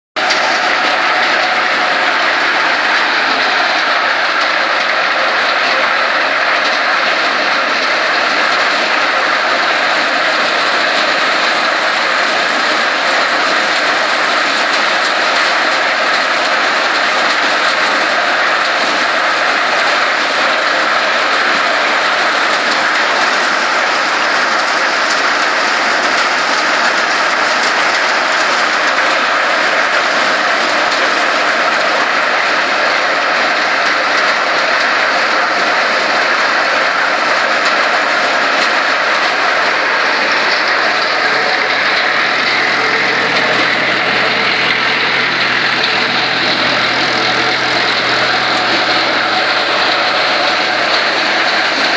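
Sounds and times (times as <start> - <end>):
thresher running: 0.2 - 51.9.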